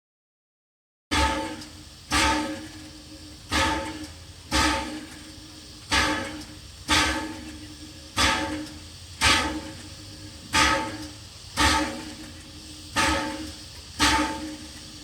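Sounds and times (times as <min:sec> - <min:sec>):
loud train bursts: 0:01.1 - 0:15.0.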